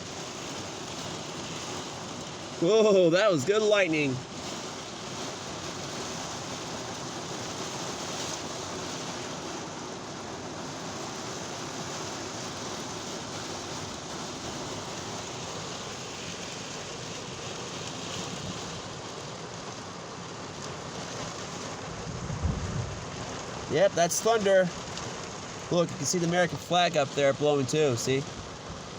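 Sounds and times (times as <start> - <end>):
heavy rain on a car: 0.0 - 28.9.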